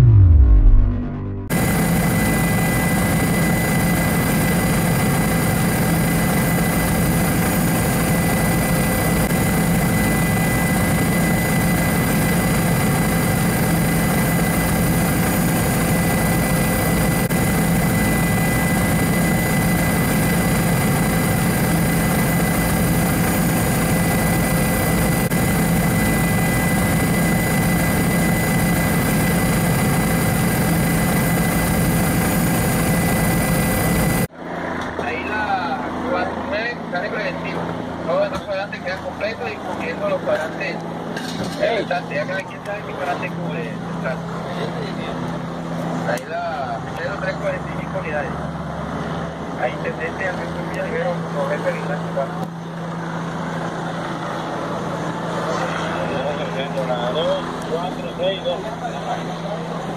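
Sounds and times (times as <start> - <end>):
helicopter engine and rotor drone: 1.4 - 59.9.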